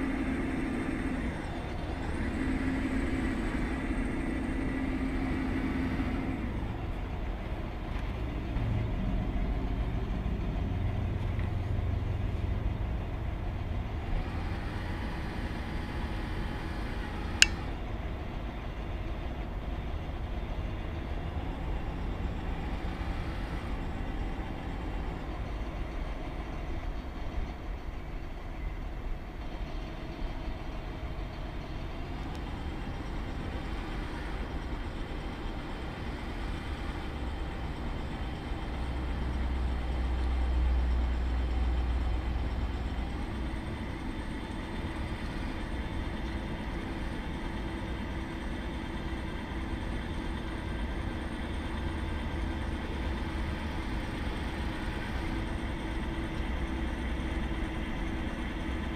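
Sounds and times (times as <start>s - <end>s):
model tractor mechanical whine: 0.0s - 58.9s.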